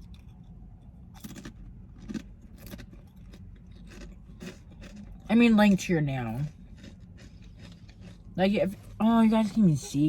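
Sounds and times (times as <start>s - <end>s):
person chewing sandwich: 0.0s - 5.3s, 6.3s - 9.6s.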